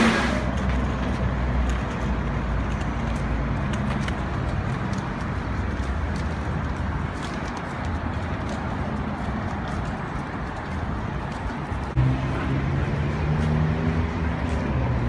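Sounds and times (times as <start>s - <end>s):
transit vehicle rumble: 0.0s - 15.0s.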